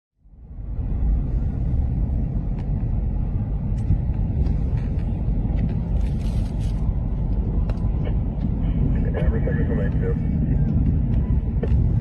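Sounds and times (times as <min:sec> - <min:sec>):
low outdoor rumble: 0:00.2 - 0:12.0.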